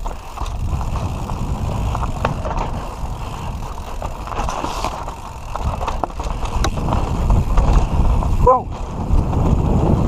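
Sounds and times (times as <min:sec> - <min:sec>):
bike clicking and rattling: 0:00.0 - 0:10.0
tyres rumbling on dirt: 0:00.0 - 0:10.0
wind on microphone: 0:00.0 - 0:10.0.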